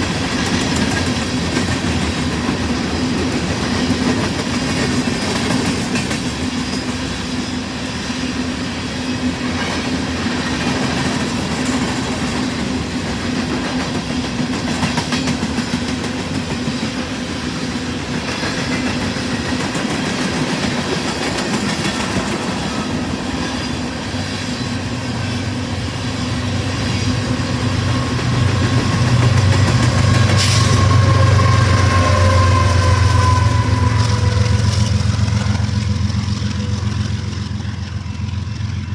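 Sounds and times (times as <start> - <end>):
freight train rolling on rails: 0.0 - 38.9.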